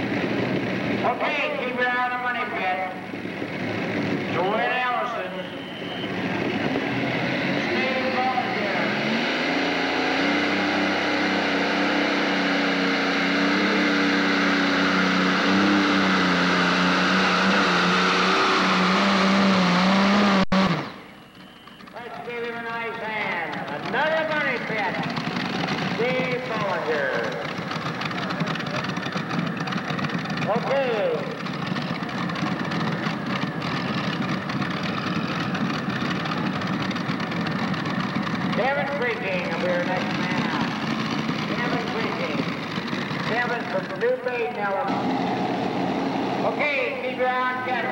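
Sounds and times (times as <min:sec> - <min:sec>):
tractor engine running flat out: 0:00.0 - 0:47.9.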